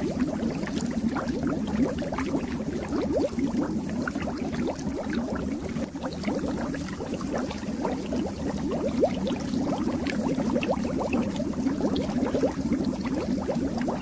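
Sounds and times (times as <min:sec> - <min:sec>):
aquarium water bubbling: 0:00.0 - 0:14.0.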